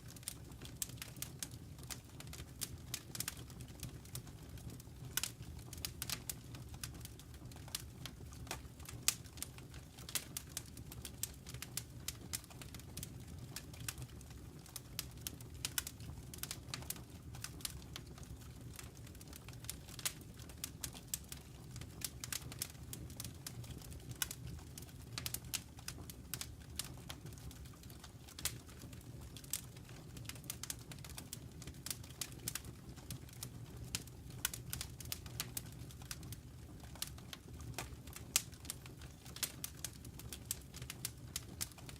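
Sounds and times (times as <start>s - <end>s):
fire popping and snapping: 0.0s - 41.9s
low steady fire rumble: 0.0s - 41.9s.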